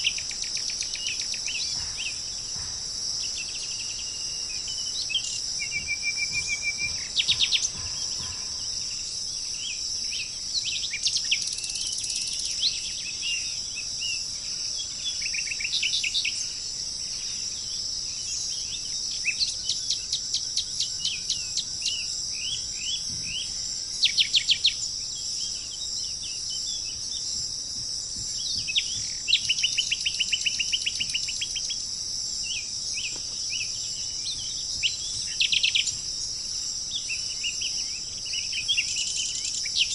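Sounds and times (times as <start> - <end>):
insects droning: 0.0 - 39.9
songbirds chirping and trilling: 0.0 - 39.9.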